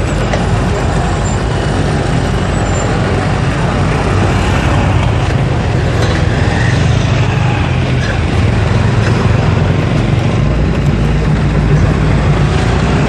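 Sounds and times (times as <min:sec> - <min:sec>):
low rumble of engines: 0:00.0 - 0:13.0
road noise: 0:00.0 - 0:13.0.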